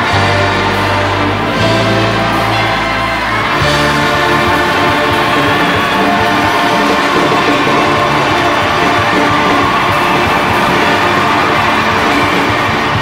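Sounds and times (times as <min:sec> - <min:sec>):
orchestra playing loudly: 0:00.0 - 0:13.0.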